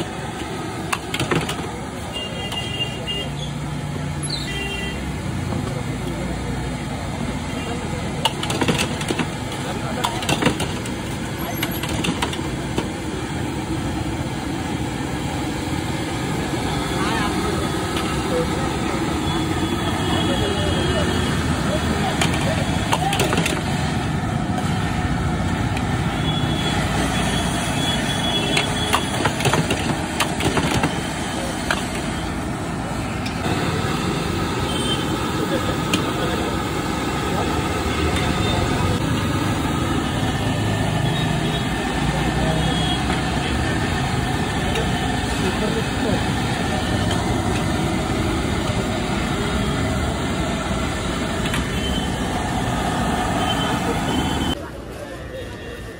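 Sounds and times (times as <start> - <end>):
gas burner roaring: 0.0 - 54.6
busy food stall rumble: 0.0 - 55.9.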